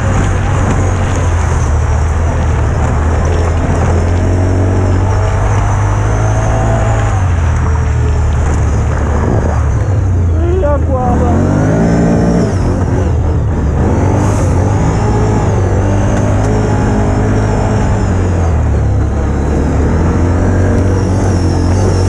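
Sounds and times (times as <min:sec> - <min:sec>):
quad bike engine revving: 0:00.0 - 0:22.0.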